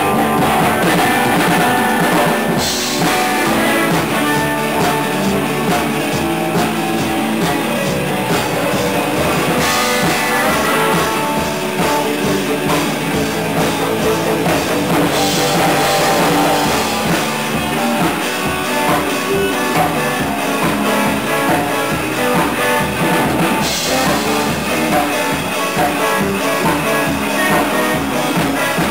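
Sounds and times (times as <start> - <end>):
drum kit with cymbals: 0.0 - 28.9
electric guitars: 0.0 - 28.9.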